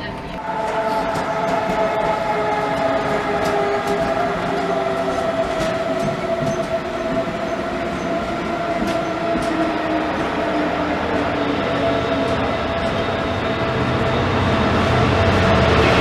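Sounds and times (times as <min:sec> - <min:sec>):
train humming and whining: 0:00.0 - 0:16.0.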